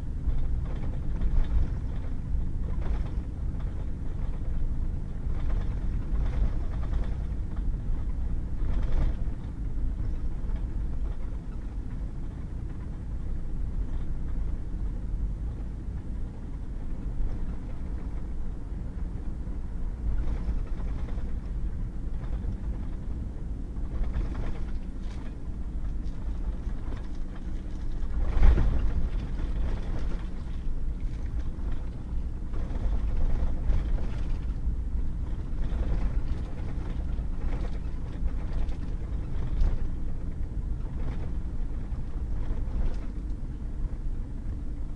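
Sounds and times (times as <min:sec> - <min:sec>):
truck engine and tyres rumbling: 0:00.0 - 0:44.9.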